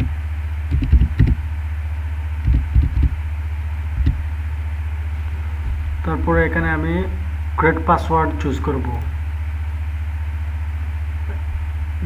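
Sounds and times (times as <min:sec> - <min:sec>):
steady low electrical hum: 0:00.0 - 0:12.0.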